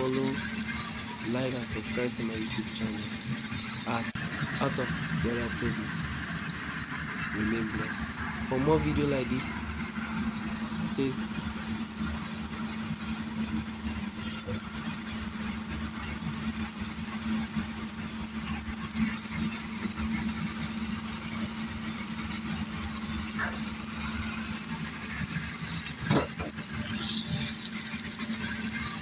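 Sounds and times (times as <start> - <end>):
welding arc crackling hiss: 0.0 - 29.0
welding generator engine running: 0.0 - 29.0.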